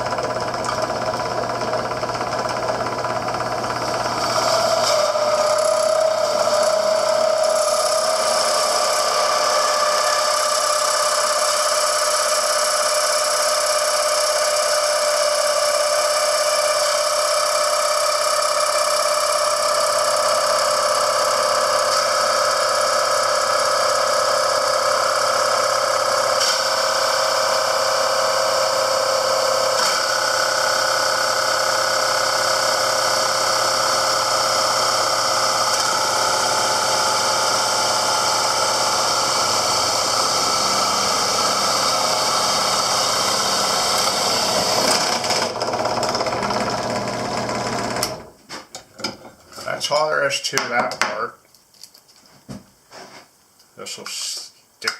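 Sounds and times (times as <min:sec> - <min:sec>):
power drill screeching through plastic: 0:03.2 - 0:48.3.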